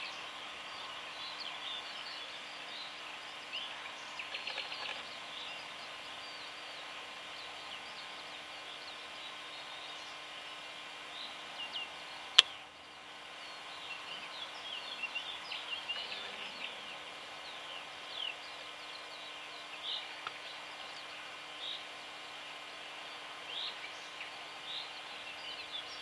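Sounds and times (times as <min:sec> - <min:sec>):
faint steady hum: 0:00.0 - 0:26.0
small birds chirping: 0:00.0 - 0:26.0.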